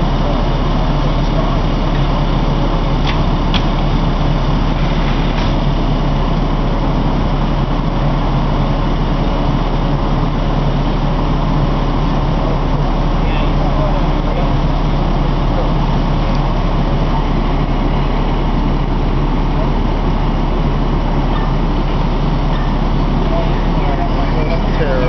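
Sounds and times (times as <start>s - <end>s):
fire engine idling: 0.0s - 25.0s.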